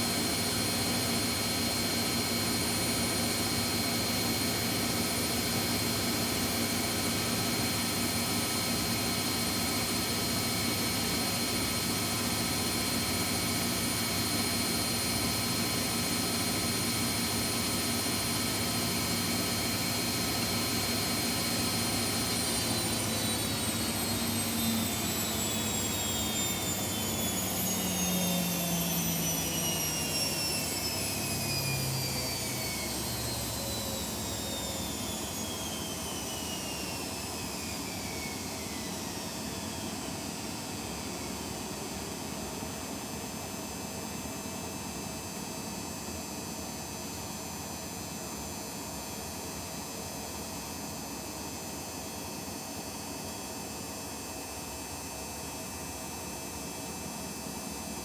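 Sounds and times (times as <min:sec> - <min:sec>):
washing machines spinning down: 0:00.0 - 0:58.0.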